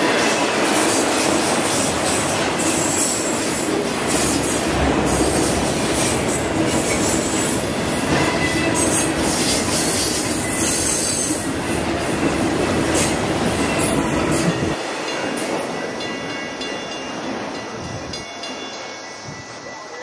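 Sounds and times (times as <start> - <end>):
train wheels squealing: 0.0 - 4.6, 5.2 - 12.1, 12.9 - 20.0
train rumbling past: 0.0 - 20.0.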